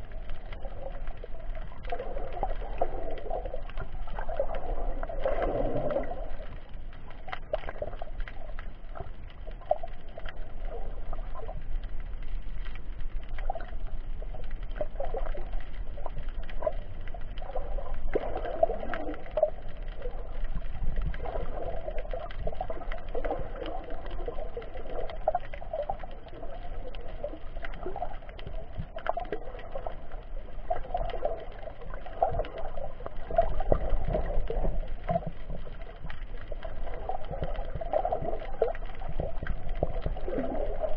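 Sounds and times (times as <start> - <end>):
underwater rushing water: 0.0 - 40.9.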